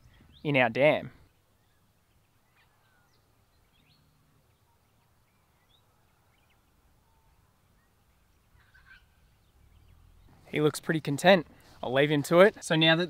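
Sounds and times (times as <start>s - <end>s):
faint bird chirps: 0.0s - 10.6s.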